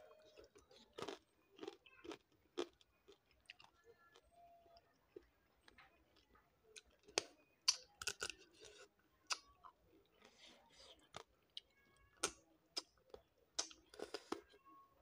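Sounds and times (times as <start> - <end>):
chewing: 0.0 - 14.6.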